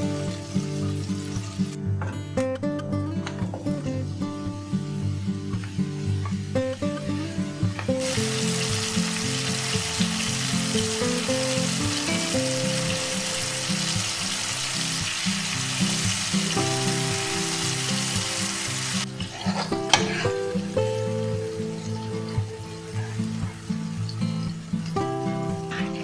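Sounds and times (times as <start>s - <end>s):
background guitar music: 0.0s - 26.0s
food sizzling in frying: 0.0s - 26.0s.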